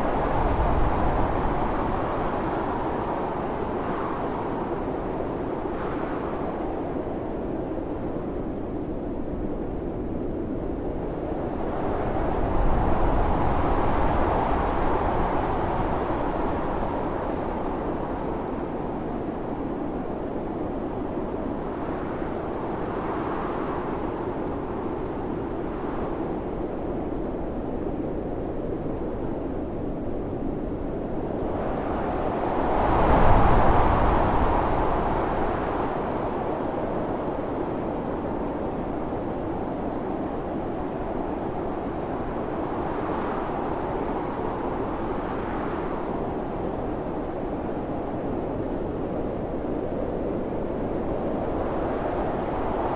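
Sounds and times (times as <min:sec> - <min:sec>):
blizzard wind howling: 0:00.0 - 0:52.9.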